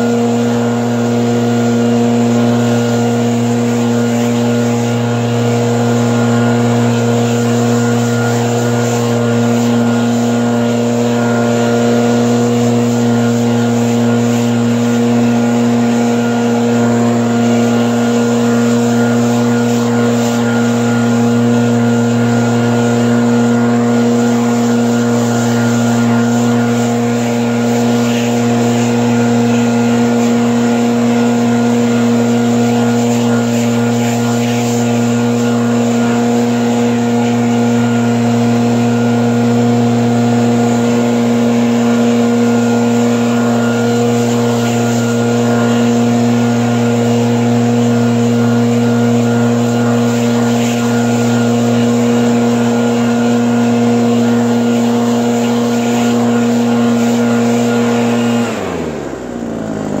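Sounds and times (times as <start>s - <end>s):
backpack blower engine: 0.0s - 60.0s.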